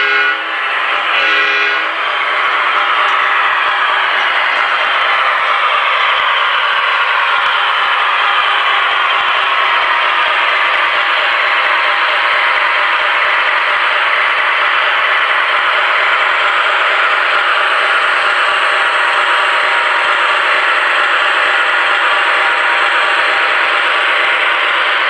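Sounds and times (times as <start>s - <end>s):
model train rattling on track: 0.0s - 25.0s.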